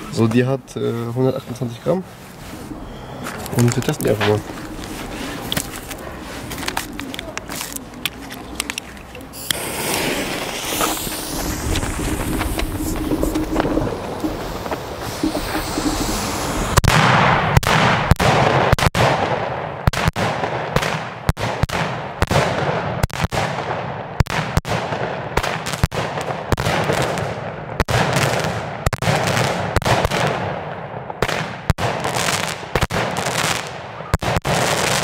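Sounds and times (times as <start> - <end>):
firework battery firing: 3.3 - 30.5, 31.2 - 35.0.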